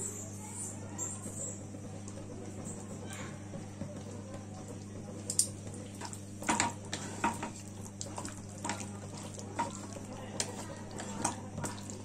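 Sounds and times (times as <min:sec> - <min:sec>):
spatula stirring in frying pan: 0:01.3 - 0:12.0.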